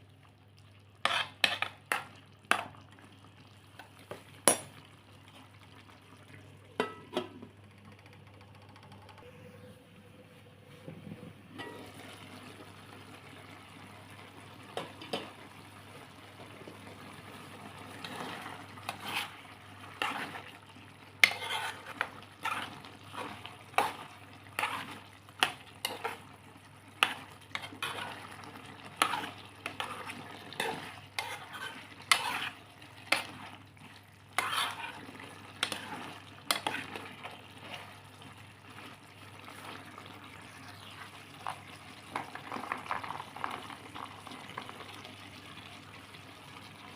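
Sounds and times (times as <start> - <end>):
food sizzling in a pan: 0.0 - 7.3, 11.5 - 46.9.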